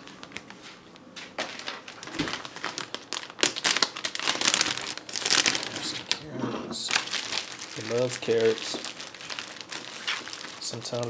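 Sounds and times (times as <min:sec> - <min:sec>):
plastic bag crinkling: 0:00.0 - 0:00.6, 0:01.3 - 0:11.0.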